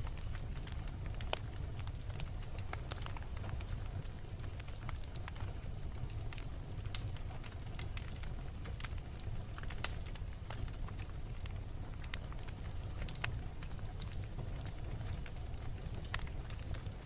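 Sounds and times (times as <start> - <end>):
logs crackling in fireplace: 0.0 - 17.0
low rumble of flames: 0.0 - 17.0.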